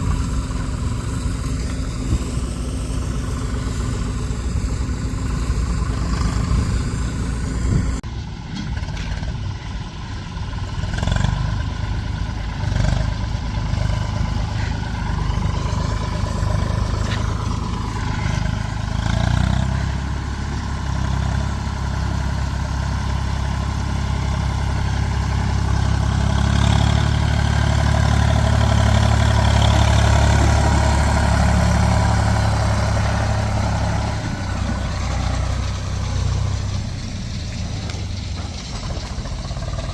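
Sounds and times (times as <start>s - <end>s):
diesel farm machinery engine: 0.0s - 39.9s.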